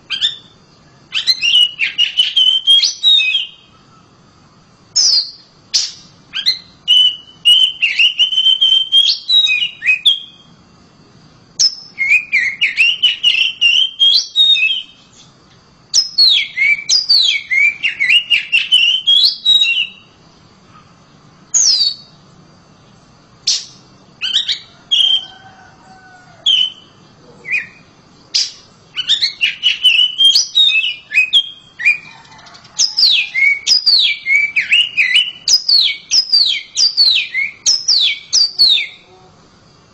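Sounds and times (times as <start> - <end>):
bird singing whistled notes: 0.0 - 10.5, 11.6 - 20.2, 21.5 - 22.2, 23.4 - 39.1.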